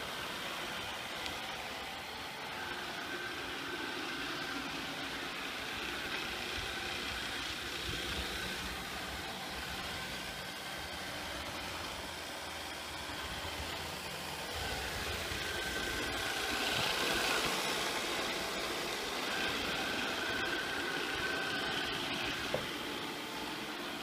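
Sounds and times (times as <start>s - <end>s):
robot vacuum cleaner whirring: 0.0s - 24.0s.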